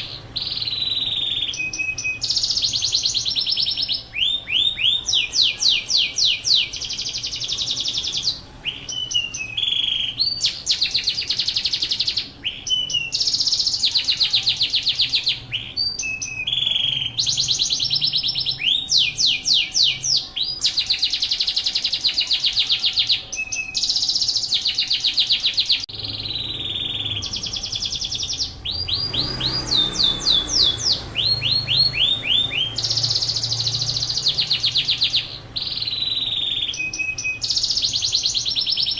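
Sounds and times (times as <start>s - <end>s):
canary singing rapid trills: 0.0s - 38.9s.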